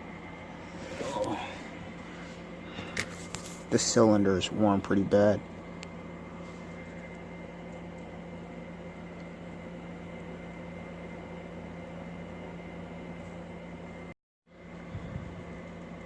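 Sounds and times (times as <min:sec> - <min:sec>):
mechanical hum with high whine: 0:00.0 - 0:16.0.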